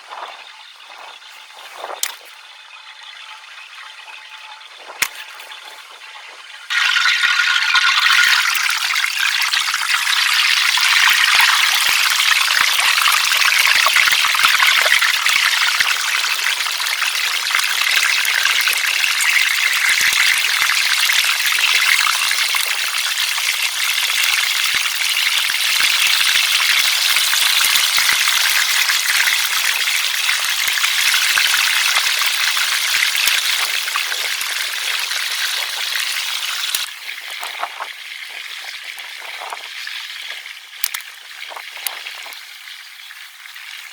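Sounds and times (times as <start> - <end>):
fish sizzling in hot oil: 0.1 - 43.9.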